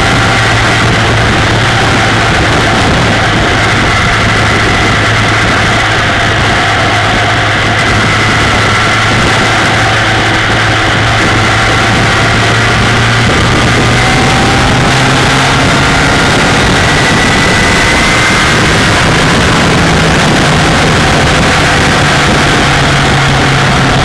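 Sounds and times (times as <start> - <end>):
motorcycle engine running: 0.0 - 24.0
wet road noise: 0.0 - 24.0
wind rushing: 0.0 - 24.0.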